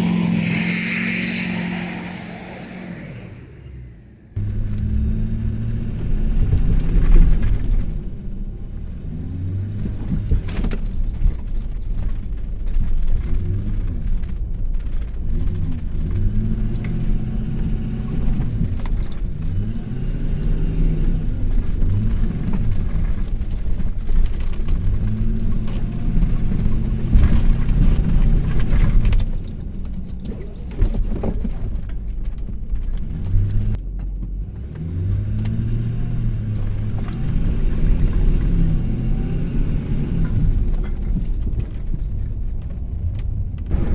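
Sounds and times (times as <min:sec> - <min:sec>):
vehicle engine revving: 0:00.0 - 0:11.2, 0:15.0 - 0:42.2, 0:43.6 - 0:43.9.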